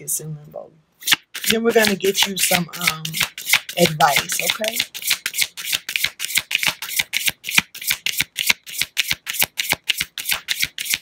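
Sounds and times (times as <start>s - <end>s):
cards being shuffled: 1.0s - 11.0s.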